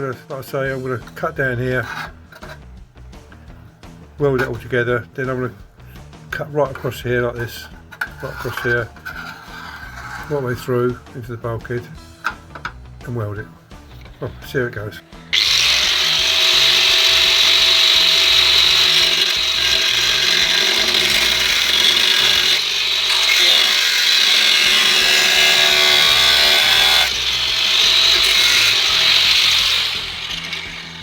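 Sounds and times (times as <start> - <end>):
angle grinder cutting sheet steel: 0.7 - 3.6, 4.2 - 5.6, 6.3 - 10.9, 13.3 - 31.0.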